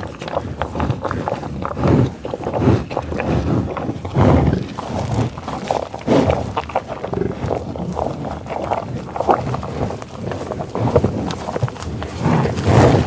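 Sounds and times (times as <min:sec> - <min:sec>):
bison grunting: 0:00.0 - 0:13.0
heavy animal breaths: 0:00.0 - 0:13.0.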